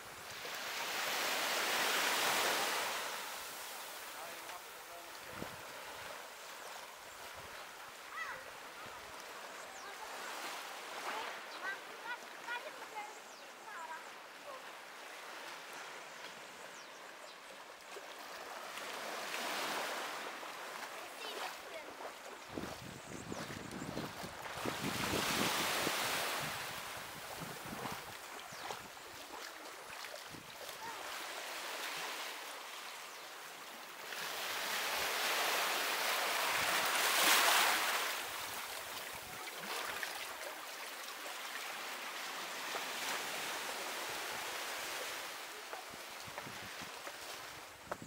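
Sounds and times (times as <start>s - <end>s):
sea waves breaking on beach: 0.0s - 47.8s.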